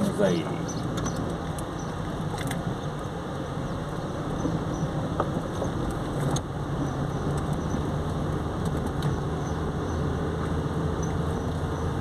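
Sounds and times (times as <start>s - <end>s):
car engine and tyre drone: 0.0s - 12.0s.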